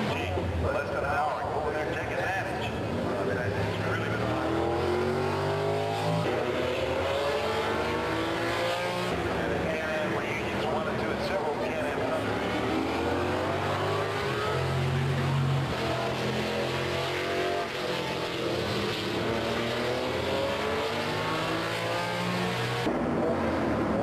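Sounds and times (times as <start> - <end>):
racing car engines accelerating: 0.0 - 24.0.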